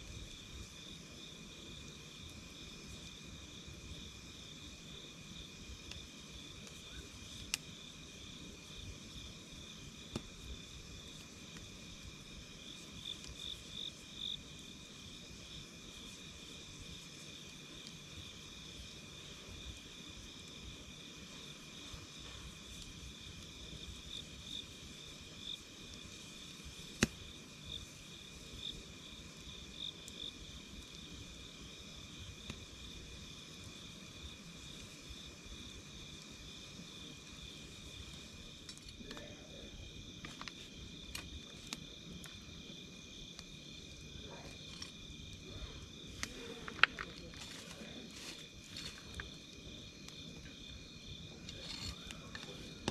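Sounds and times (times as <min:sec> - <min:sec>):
campfire crackling and popping: 0:00.0 - 0:52.9
night insects trilling: 0:00.0 - 0:52.9.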